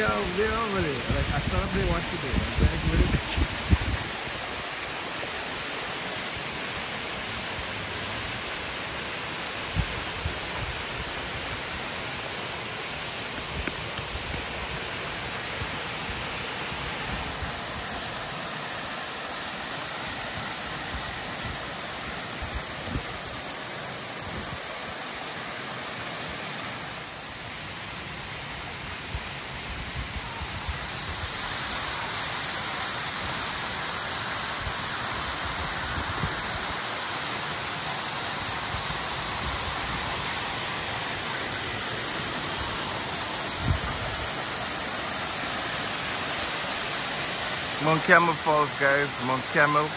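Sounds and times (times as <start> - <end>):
waterfall rushing over rocks: 0.0 - 49.9.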